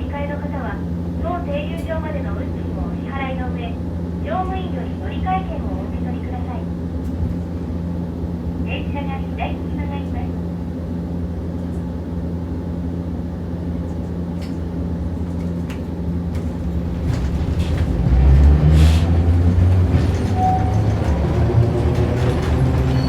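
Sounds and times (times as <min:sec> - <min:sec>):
tram motors and wheels humming: 0:00.0 - 0:23.0.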